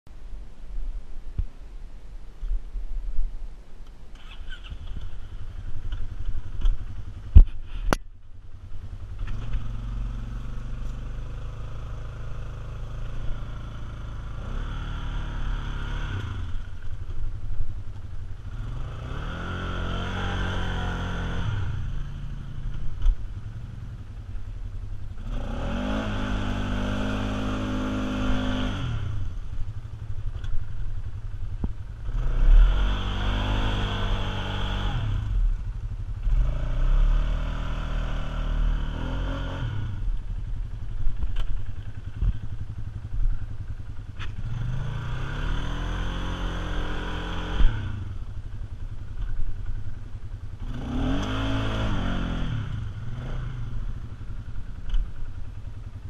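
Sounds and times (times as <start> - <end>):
atv engine revving: 4.1 - 56.0.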